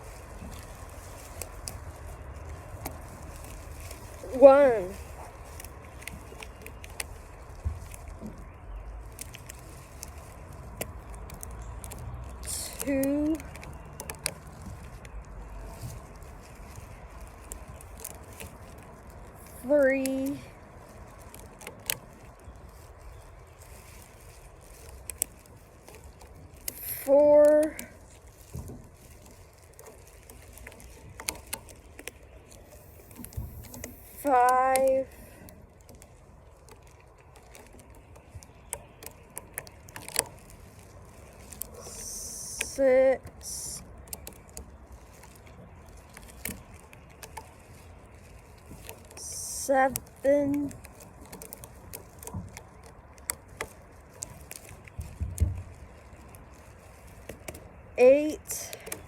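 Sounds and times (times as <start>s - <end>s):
faint rubbing and handling: 0.0s - 59.0s.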